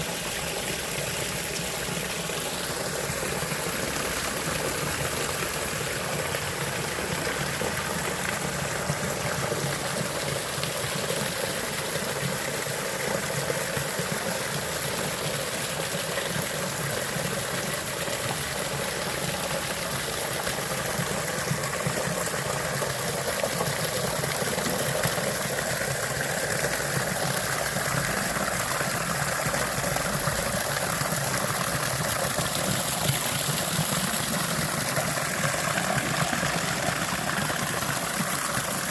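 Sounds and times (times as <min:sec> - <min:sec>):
waterfall splashing: 0:00.0 - 0:38.9.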